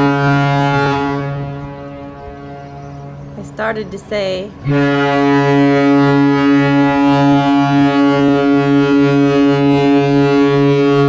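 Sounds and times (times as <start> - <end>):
ship horn blast: 0.0 - 11.0.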